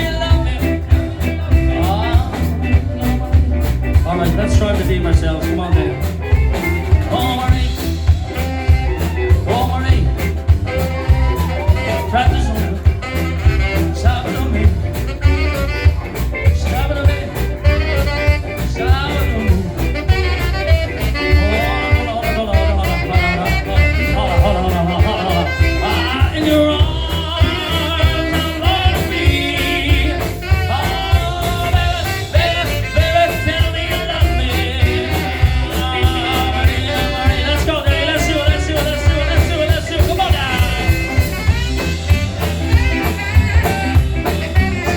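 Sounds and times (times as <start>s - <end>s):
band playing swing music: 0.0s - 44.9s
strong bass line: 0.0s - 44.9s.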